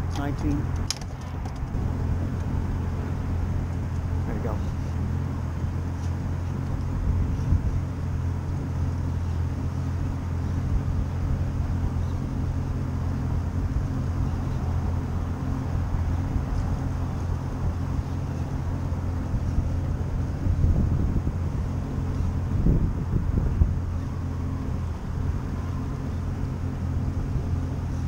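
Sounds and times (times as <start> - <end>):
outboard motor idling: 0.0 - 28.0.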